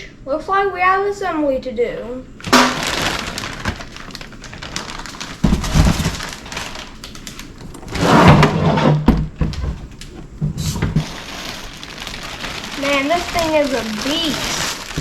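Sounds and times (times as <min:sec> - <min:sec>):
packaging rustling and scraping: 0:02.4 - 0:15.0
packaging thumps: 0:02.4 - 0:15.0.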